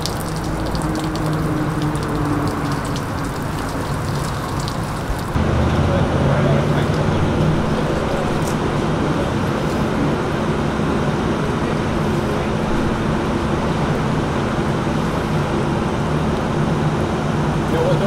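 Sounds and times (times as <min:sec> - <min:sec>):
constant low hum: 0:00.0 - 0:18.0
vehicle engines and road traffic: 0:00.0 - 0:18.0.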